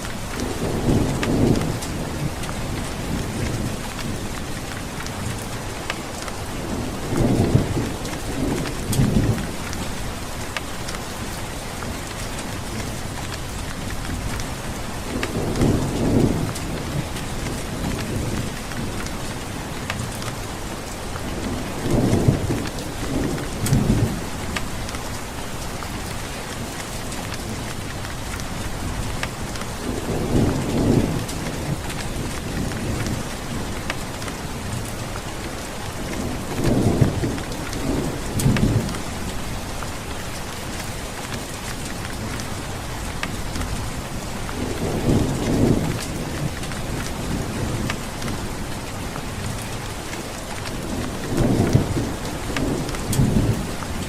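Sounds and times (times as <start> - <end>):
thunder rumbling: 0.0 - 10.5, 11.2 - 54.0
heavy rain: 0.0 - 54.0.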